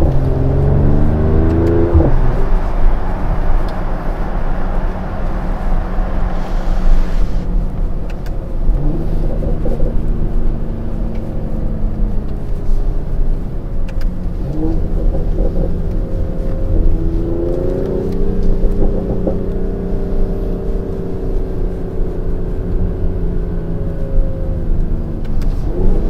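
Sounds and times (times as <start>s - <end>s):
car engine accelerating: 0.0s - 26.0s
road rumble: 0.0s - 26.0s.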